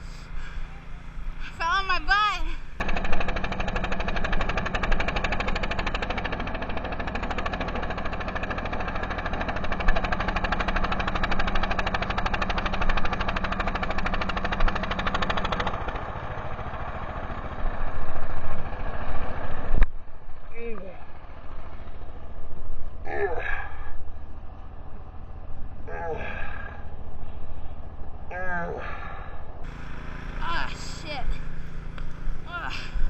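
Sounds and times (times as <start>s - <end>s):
small engine chugging: 0.0s - 33.0s.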